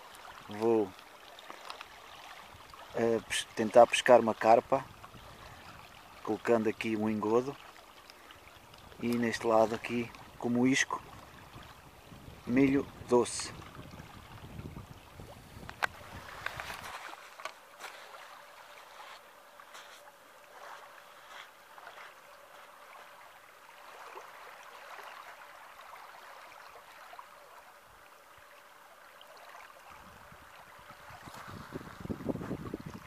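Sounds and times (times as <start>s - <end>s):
small waves lapping on shore: 0.0s - 33.0s.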